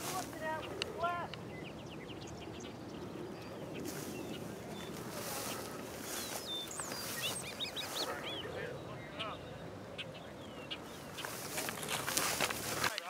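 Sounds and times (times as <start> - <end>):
birds singing: 0.0 - 13.0
wind hiss with gusts: 0.0 - 13.0.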